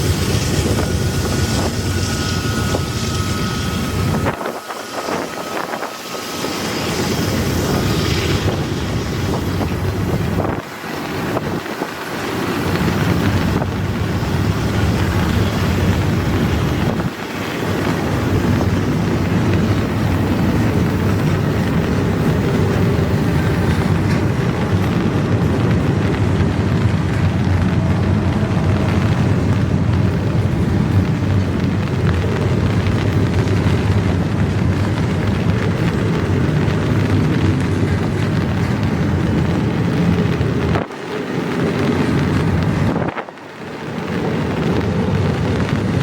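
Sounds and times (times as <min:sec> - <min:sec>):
freight train wheels rumbling on rail: 0:00.0 - 0:46.0
wind buffeting microphone: 0:00.0 - 0:46.0.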